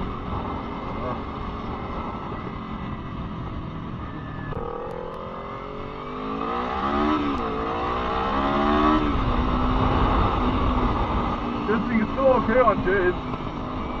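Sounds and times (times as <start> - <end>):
road and wind rumble: 0.0 - 14.0.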